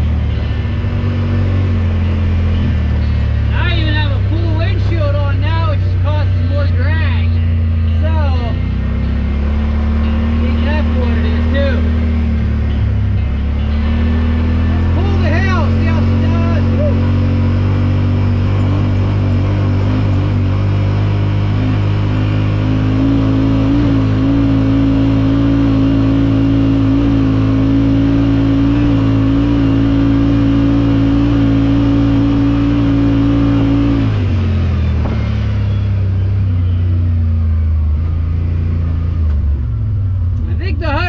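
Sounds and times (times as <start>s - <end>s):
engine running at high speed: 0.0s - 41.0s.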